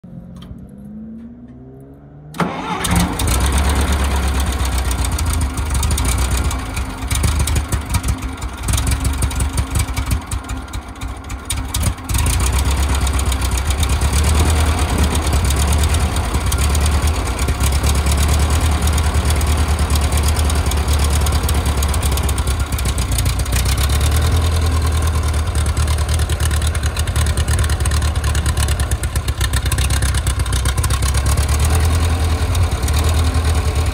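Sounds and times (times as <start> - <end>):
tractor engine starting and running: 0.0 - 33.9.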